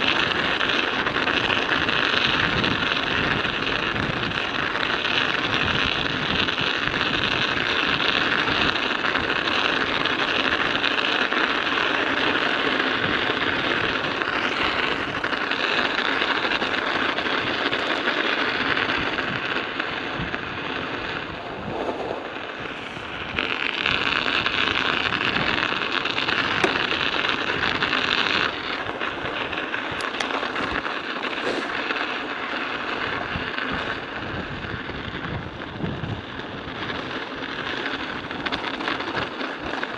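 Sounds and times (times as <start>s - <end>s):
wind buffeting microphone: 0.0s - 10.9s, 12.9s - 37.4s
studded bicycle tyres crunching on ice: 0.0s - 39.9s.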